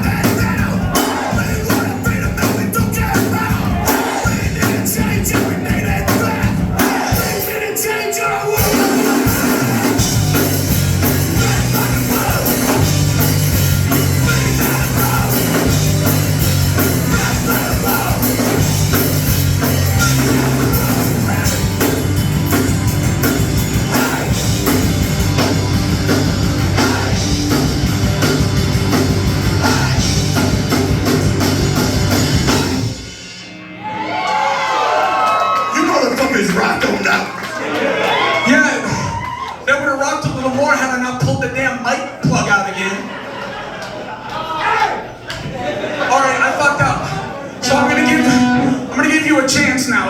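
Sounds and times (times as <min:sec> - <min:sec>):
rock band playing loud: 0:00.0 - 0:37.5, 0:46.9 - 0:50.0.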